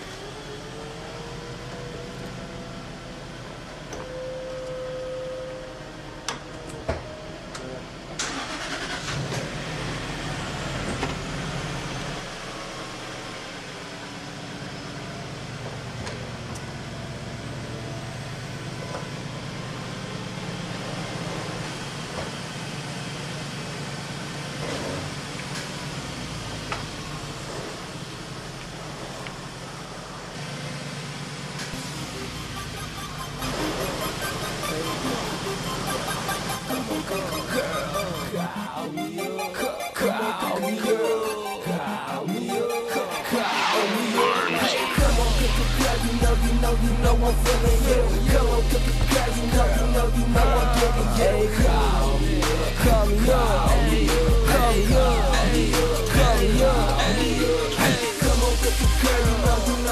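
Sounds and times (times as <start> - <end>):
power roof mechanism whining: 0.0 - 59.9
car engine running: 5.9 - 39.1, 43.4 - 59.9.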